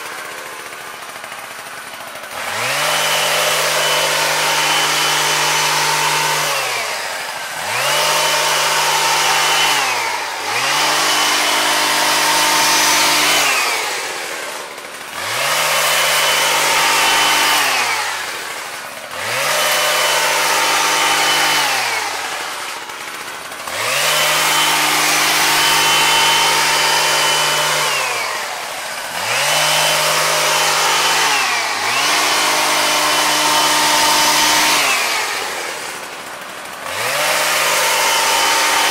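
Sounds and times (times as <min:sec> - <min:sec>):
hedge trimmer engine revving: 0:00.0 - 0:38.9.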